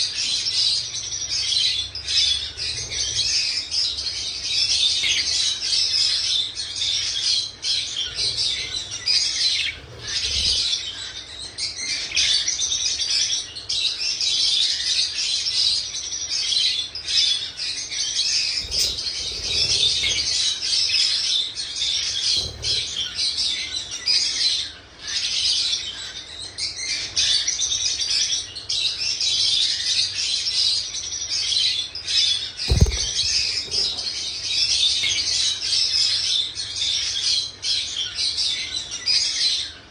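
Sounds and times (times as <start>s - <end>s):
pet birds chirping: 0.0s - 39.9s.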